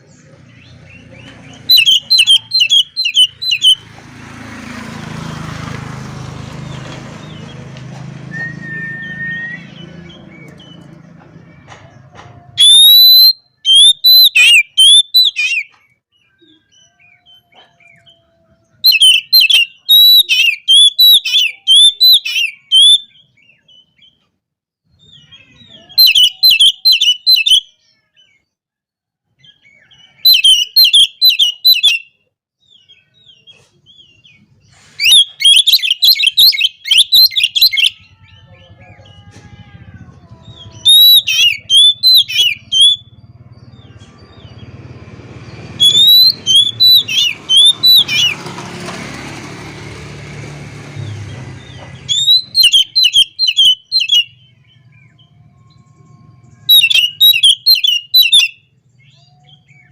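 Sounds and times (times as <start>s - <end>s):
songbird whistling and warbling: 0.0s - 3.8s, 8.3s - 10.9s, 11.6s - 24.2s, 24.9s - 28.4s, 29.4s - 39.1s, 40.1s - 44.7s, 45.6s - 48.4s, 51.6s - 59.9s.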